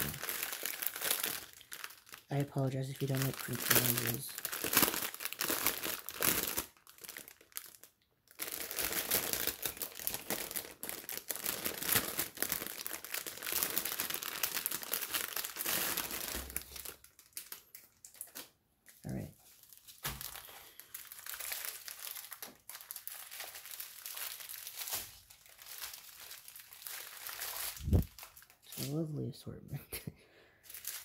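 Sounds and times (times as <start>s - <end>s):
plastic bag crinkling: 0.0s - 29.0s, 30.6s - 31.0s.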